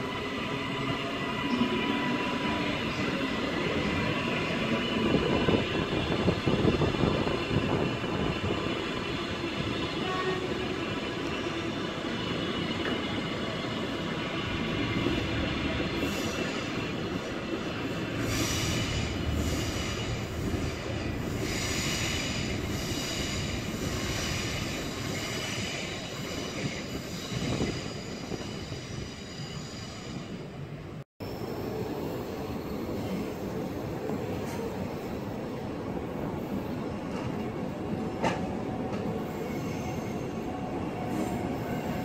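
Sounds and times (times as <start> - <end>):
train wheels rumbling on rail: 0.0 - 31.0, 32.5 - 42.0.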